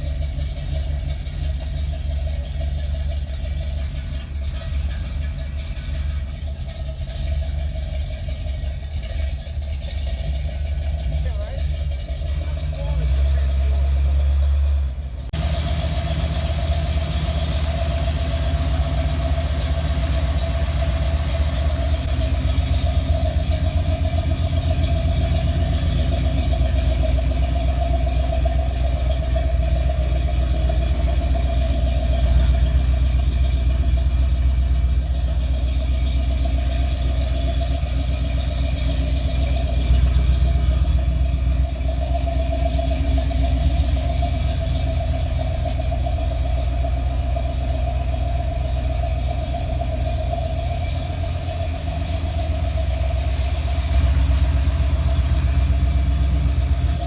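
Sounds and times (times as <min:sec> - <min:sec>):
pickup truck engine running: 0:00.0 - 0:57.0.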